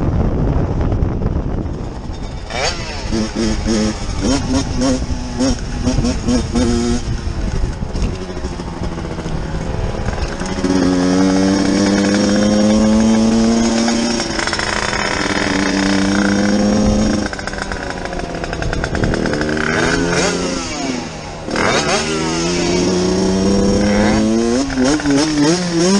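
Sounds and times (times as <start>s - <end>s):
motorcycle engine revving: 0.2s - 25.9s.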